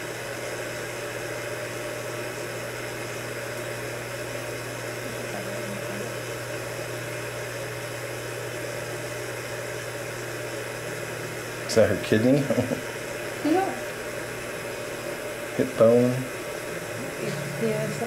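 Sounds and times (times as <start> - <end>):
steady mechanical hum with hiss: 0.0 - 18.0.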